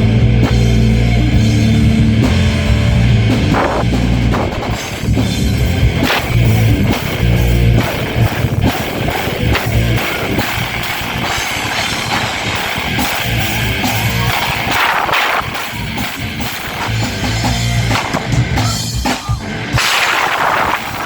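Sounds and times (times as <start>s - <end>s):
bass guitar: 0.0s - 21.0s
distorted electric guitars: 0.0s - 21.0s
pounding drum kit: 0.0s - 21.0s.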